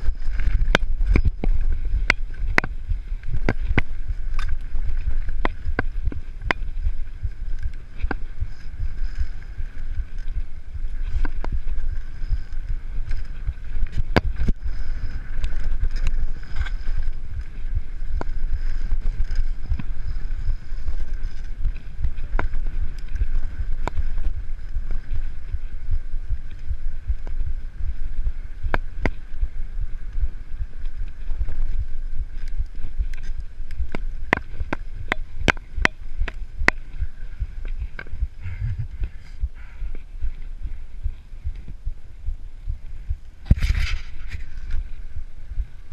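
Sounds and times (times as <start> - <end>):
bike rattling over bumps: 0.0 - 39.4
bike tyres rumbling on dirt: 0.0 - 45.9
wind on microphone: 0.0 - 45.9.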